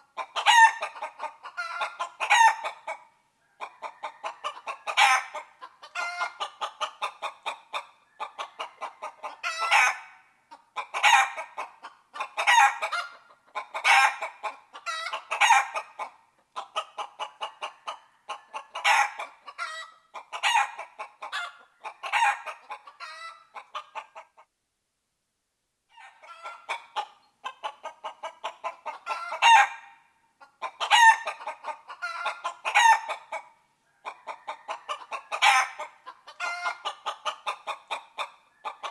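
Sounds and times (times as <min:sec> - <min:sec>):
chickens clucking: 0:00.0 - 0:24.5, 0:25.9 - 0:38.9.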